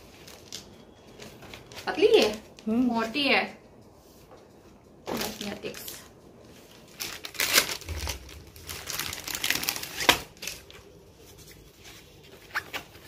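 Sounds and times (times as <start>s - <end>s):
plastic covers crinkling: 0.0s - 3.2s, 5.0s - 13.0s.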